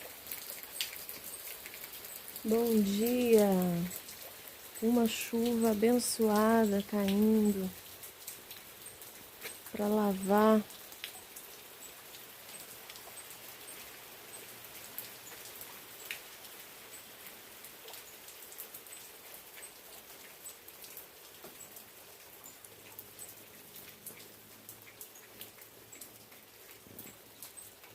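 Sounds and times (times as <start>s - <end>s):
raindrops ticking on surfaces: 0.0s - 27.9s
steady rain falling: 0.0s - 27.9s.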